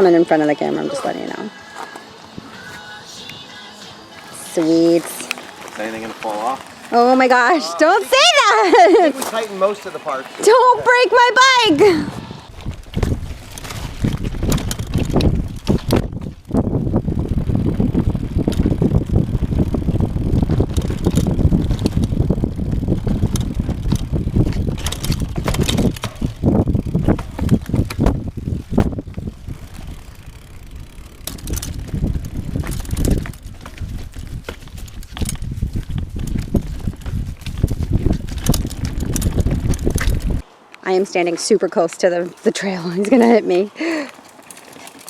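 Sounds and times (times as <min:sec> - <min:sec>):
bike clicks and rattles: 0:00.4 - 0:40.5, 0:41.4 - 0:45.0
bike tyre rumble on dirt: 0:04.1 - 0:40.5, 0:42.0 - 0:45.0.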